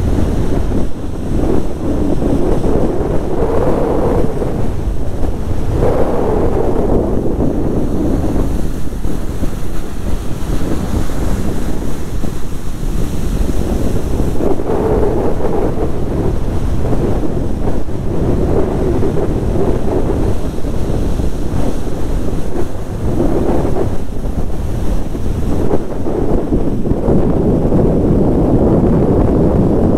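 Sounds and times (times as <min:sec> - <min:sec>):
storm surf breaking on beach: 0:00.0 - 0:29.9
wind buffeting microphone: 0:00.0 - 0:29.9.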